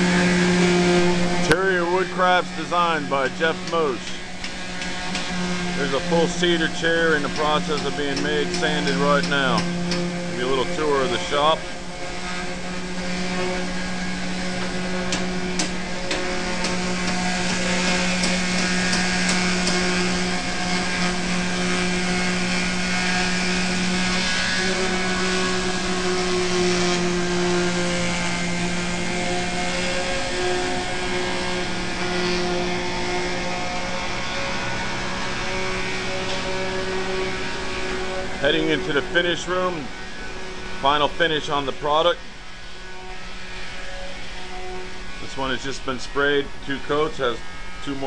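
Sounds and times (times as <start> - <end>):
power tool motor humming: 0.0 - 48.0.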